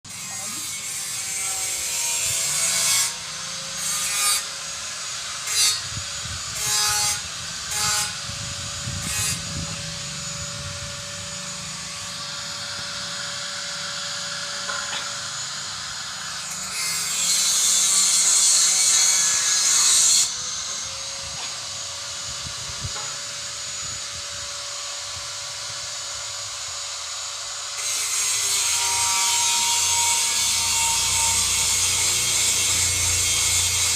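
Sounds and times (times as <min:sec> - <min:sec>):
angle grinder motor whine: 0:00.1 - 0:33.9
grinder grinding: 0:00.1 - 0:33.9.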